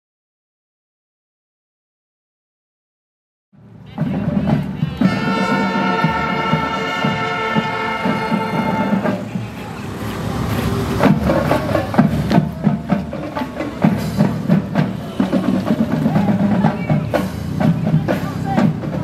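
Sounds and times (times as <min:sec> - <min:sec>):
outdoor street noise: 0:03.5 - 0:19.0
marching band drums beating: 0:03.6 - 0:19.0.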